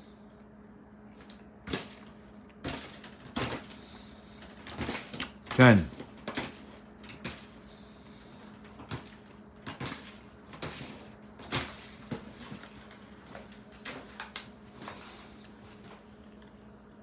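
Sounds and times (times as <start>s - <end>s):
steady low hum: 0.0s - 17.0s
paper rustling: 1.2s - 16.0s.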